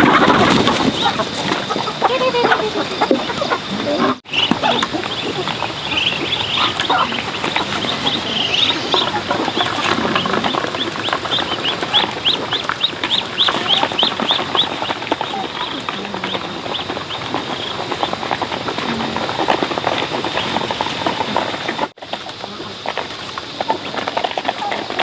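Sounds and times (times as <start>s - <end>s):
poultry peeping: 0.0s - 25.0s.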